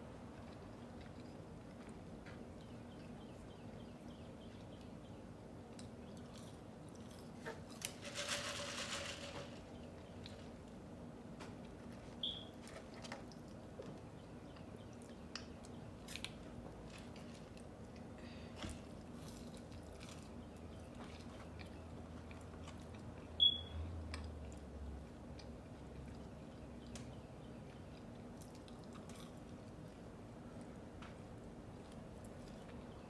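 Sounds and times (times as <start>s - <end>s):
chewing with small crunches: 0.0s - 7.9s, 9.8s - 33.0s.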